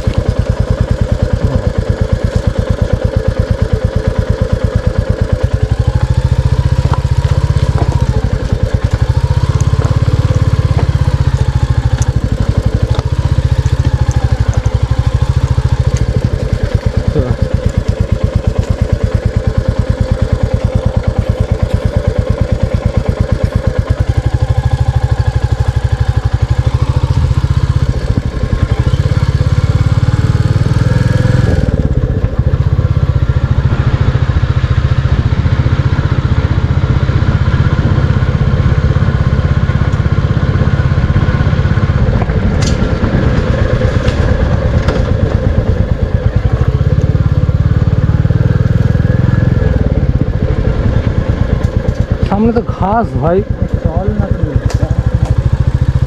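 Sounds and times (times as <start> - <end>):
motorcycle engine thumping: 0.0 - 56.0.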